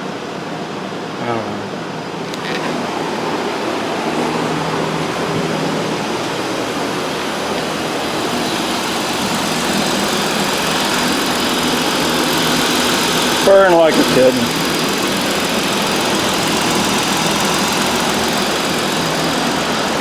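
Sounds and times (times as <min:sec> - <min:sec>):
car engine idling: 0:02.3 - 0:20.0.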